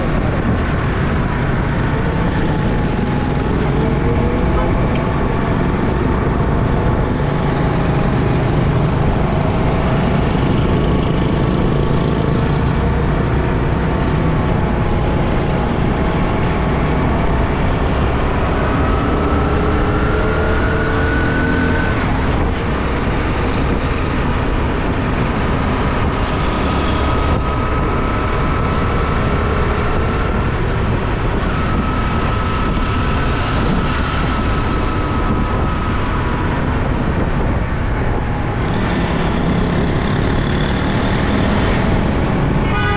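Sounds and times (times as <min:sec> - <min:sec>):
motorbike engine: 0:00.0 - 0:42.9.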